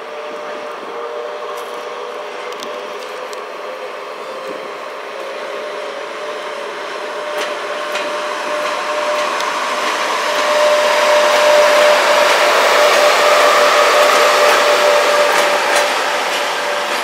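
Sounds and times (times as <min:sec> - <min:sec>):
electric locomotive passing: 0:00.0 - 0:17.0.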